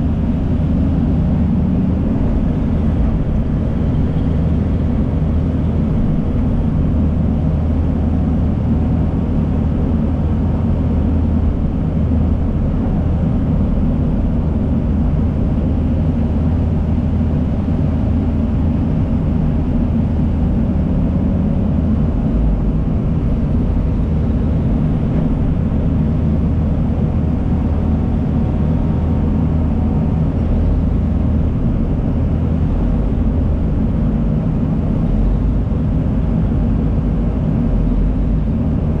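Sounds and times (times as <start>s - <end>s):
heavy machinery diesel engines: 0.0s - 39.0s.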